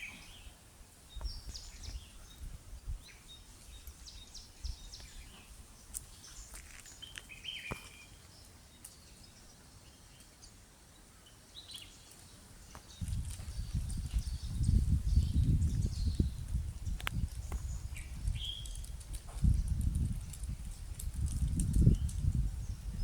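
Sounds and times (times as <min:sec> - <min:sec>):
low rumble of wind: 0:00.0 - 0:11.0, 0:11.6 - 0:23.0
small birds chirping: 0:00.0 - 0:23.0.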